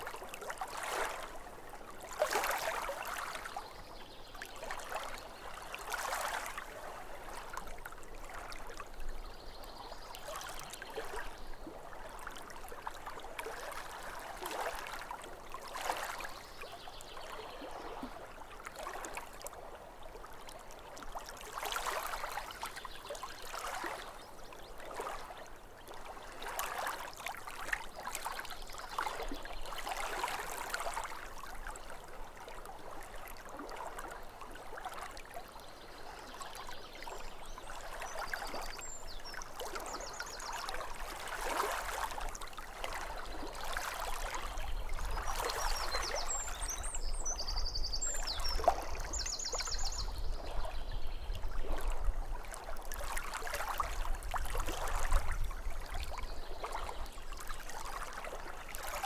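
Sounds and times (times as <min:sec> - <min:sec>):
small waves lapping at shore: 0:00.0 - 0:59.0.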